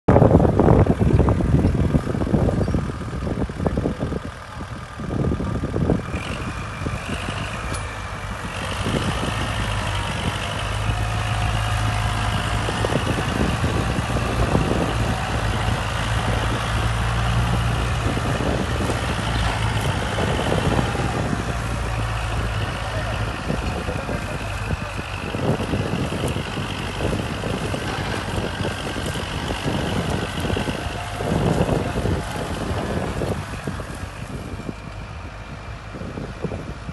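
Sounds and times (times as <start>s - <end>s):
tractor diesel engine under load: 0.1s - 36.9s.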